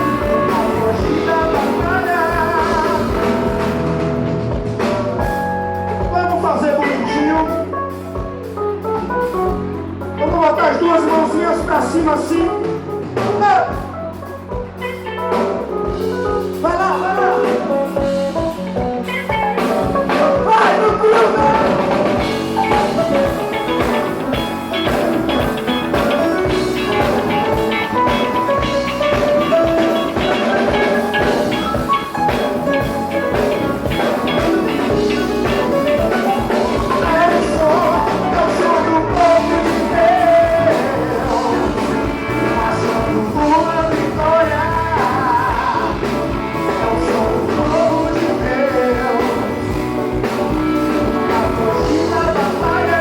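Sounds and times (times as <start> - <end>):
drum kit beat: 0.0 - 10.6, 11.6 - 53.0
band playing instrumental: 0.0 - 53.0
held bass notes: 0.0 - 53.0.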